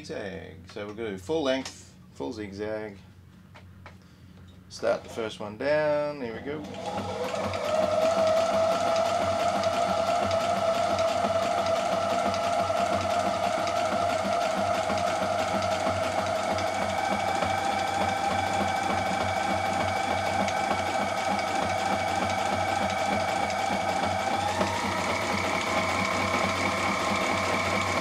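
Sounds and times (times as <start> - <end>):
sewing machine running: 4.8 - 28.0.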